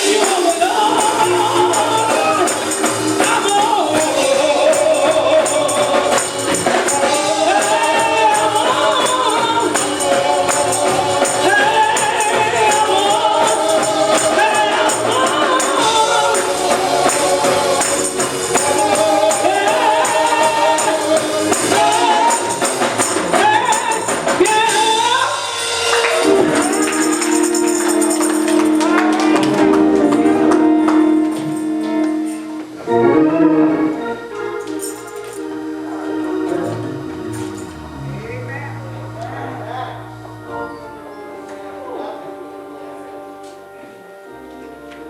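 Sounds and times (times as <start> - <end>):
tambourine shaking: 0.0 - 30.2, 31.0 - 32.8, 34.3 - 39.2
group singing gospel song: 0.0 - 43.9.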